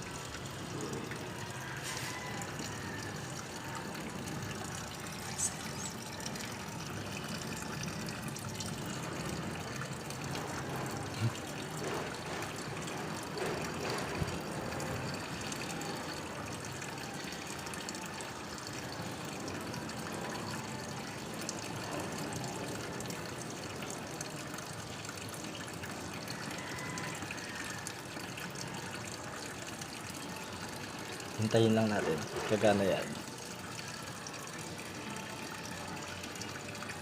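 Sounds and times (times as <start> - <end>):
water running into washing machine: 0.0 - 37.0.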